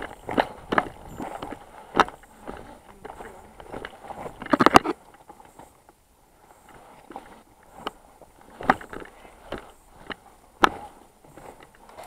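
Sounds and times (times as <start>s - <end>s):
footsteps on gravel and rubble: 0.0s - 12.0s.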